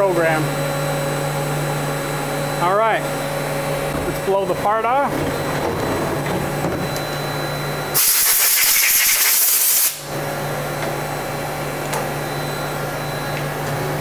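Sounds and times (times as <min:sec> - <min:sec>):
low machine hum: 0:00.0 - 0:08.0, 0:10.0 - 0:14.0.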